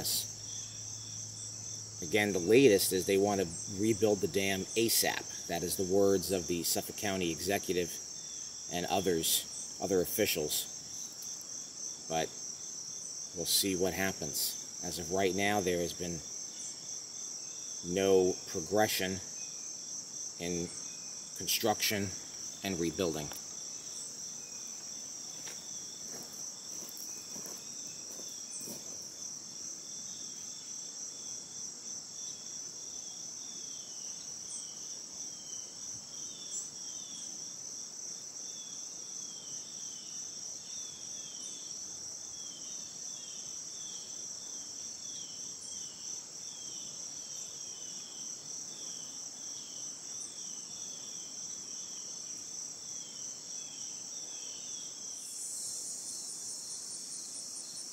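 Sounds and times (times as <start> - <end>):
insects trilling: 0.0 - 57.9.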